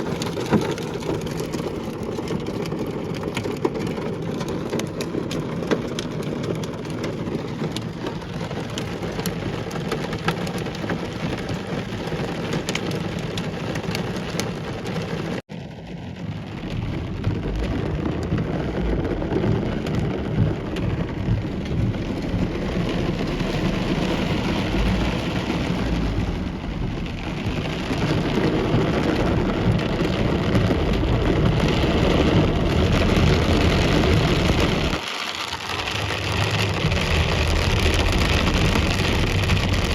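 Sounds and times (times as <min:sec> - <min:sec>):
hailstones clicking: 0:00.0 - 0:39.9
heavy rain pelting: 0:00.0 - 0:39.9.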